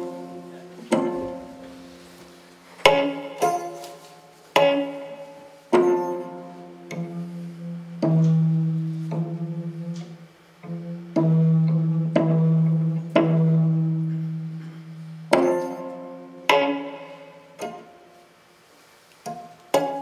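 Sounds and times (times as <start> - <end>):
zither string notes through loudspeaker: 0.0 - 18.3, 19.2 - 20.0.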